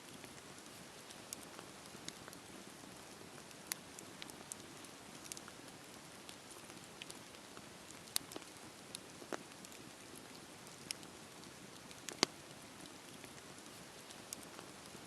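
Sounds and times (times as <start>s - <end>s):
fire crackles and pops: 0.0s - 15.0s
campfire hissing: 0.1s - 15.0s.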